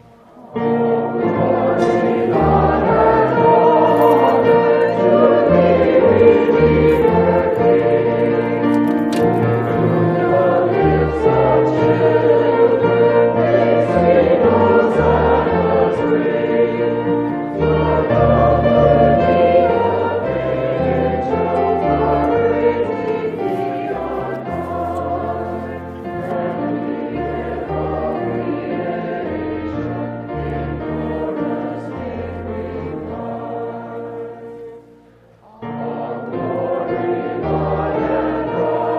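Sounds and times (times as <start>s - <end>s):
choir singing: 0.0s - 38.9s
instrumental accompaniment: 0.0s - 38.9s.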